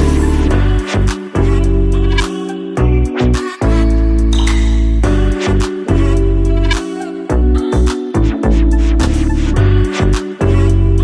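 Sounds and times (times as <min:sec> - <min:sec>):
song with bass guitar and beat: 0:00.0 - 0:11.0.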